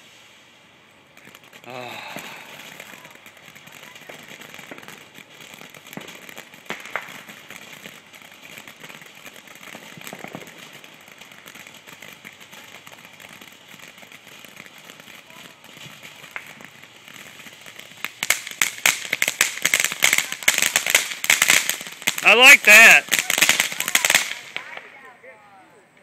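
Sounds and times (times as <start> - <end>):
firework fountain hissing: 0.0 - 26.0
crackling pops: 1.0 - 25.2.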